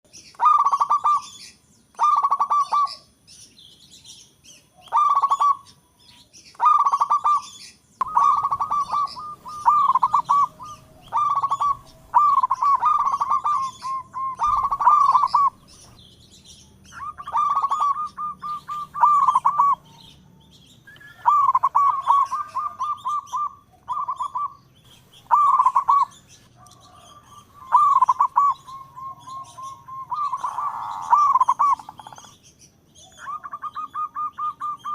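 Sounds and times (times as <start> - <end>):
dove cooing: 0.3 - 3.1, 4.7 - 5.8, 6.5 - 32.4, 33.0 - 34.9.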